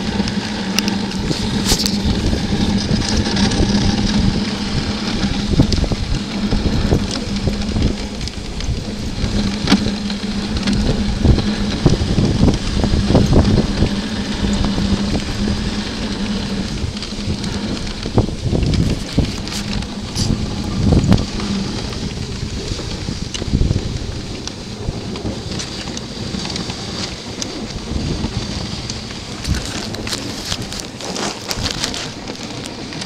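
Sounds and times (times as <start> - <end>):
sled knocks and rattles: 0.0 - 33.0
sled runners scraping over snow: 0.0 - 33.0
wind gusts on microphone: 0.0 - 33.0.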